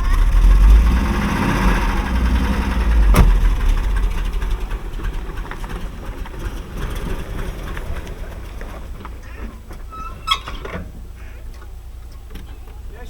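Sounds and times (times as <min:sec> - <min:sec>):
car engine running with knock: 0:00.0 - 0:09.9, 0:10.5 - 0:12.9.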